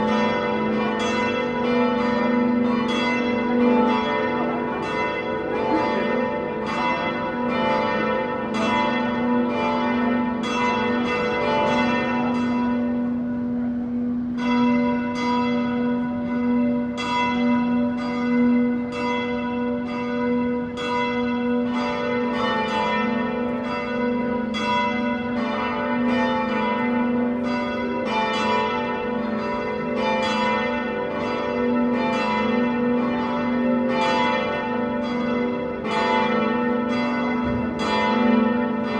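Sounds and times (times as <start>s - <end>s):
church bells ringing a peal: 0.0s - 38.9s.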